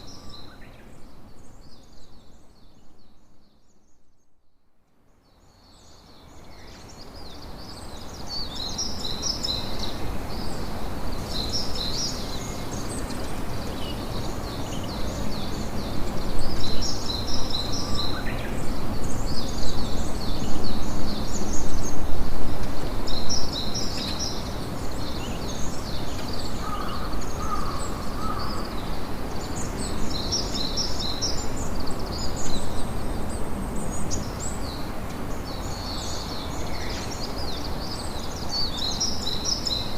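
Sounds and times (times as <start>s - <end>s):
wind: 0.0s - 39.9s.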